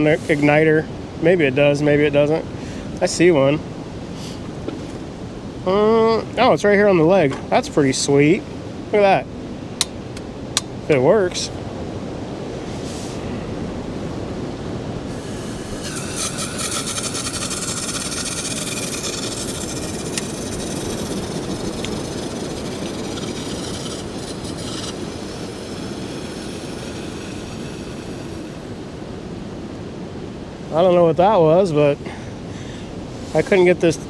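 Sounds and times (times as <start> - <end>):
wind noise: 0.0 - 31.4.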